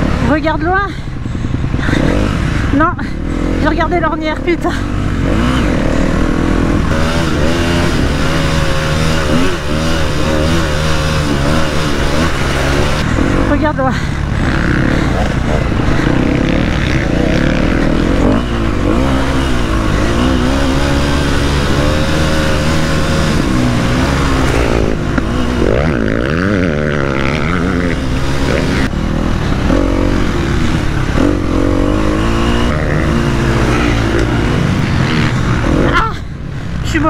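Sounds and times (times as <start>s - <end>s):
motocross engine revving: 0.0s - 37.0s.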